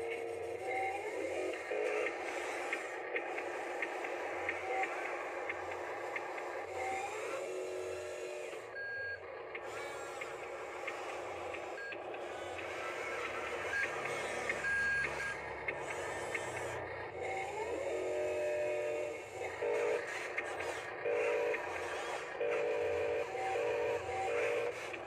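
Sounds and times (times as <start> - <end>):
toy motors and gears whining: 0.0 - 25.0.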